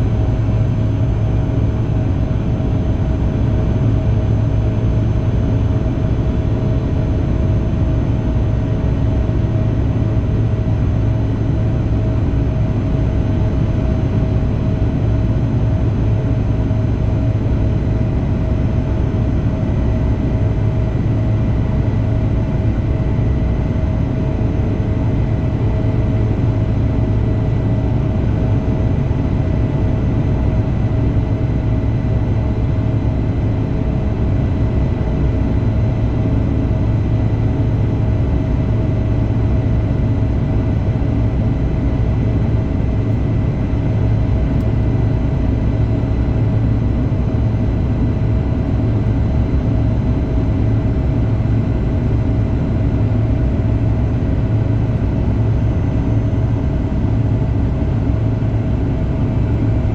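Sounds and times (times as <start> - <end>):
jet engines droning: 0.0 - 59.9.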